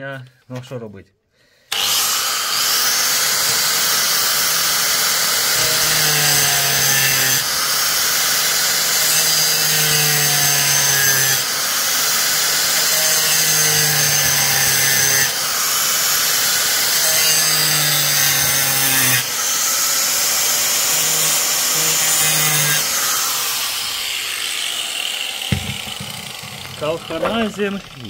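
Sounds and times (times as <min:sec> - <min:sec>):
angle grinder cutting: 0:01.7 - 0:28.0.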